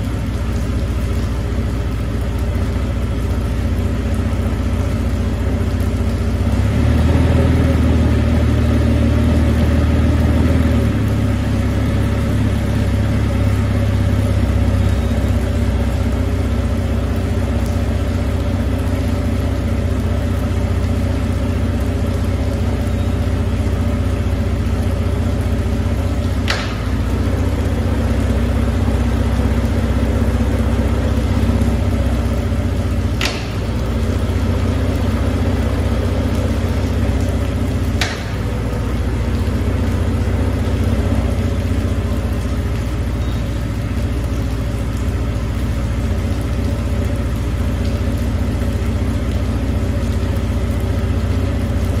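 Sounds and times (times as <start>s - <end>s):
outboard engines idling and revving: 0.0s - 52.0s.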